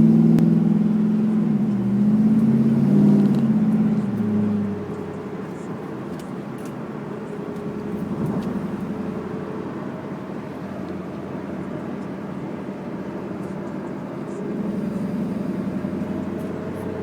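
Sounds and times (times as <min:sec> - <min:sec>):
car road and running noise: 0:00.0 - 0:17.0.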